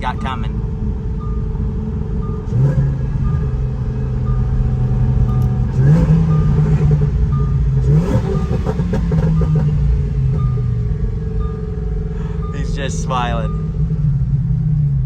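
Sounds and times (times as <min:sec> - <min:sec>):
engine crackle: 0:00.0 - 0:15.0
loud car engine shifting: 0:00.6 - 0:15.0.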